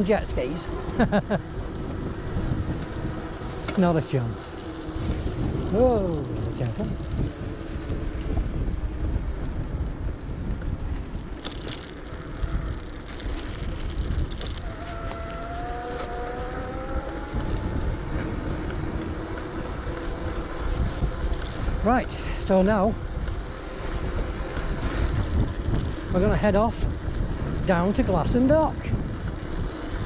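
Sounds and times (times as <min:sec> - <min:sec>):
electric bike rumble: 0:00.0 - 0:30.0
wind buffeting microphone: 0:00.0 - 0:30.0.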